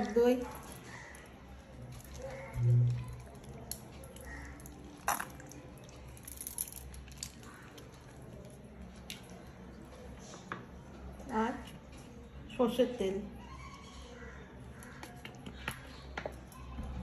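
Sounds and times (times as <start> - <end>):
wet drips and squelches: 0.0 - 12.5, 14.1 - 17.0.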